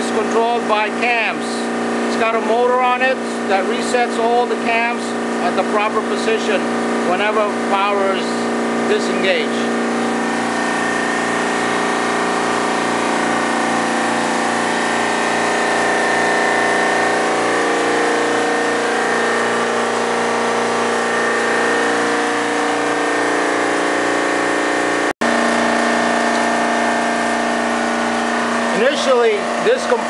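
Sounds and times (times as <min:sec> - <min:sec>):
compressor humming: 0:00.0 - 0:30.0.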